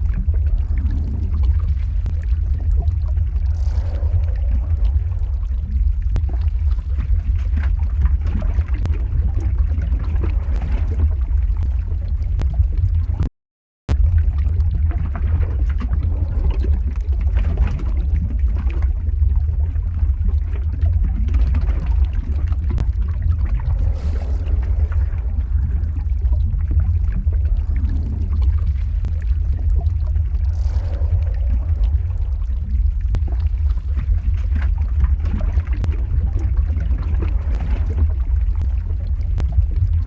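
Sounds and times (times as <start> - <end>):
deep steady rumble: 0.0 - 13.3, 13.9 - 40.0
dense crackling: 0.0 - 13.3, 20.6 - 40.0.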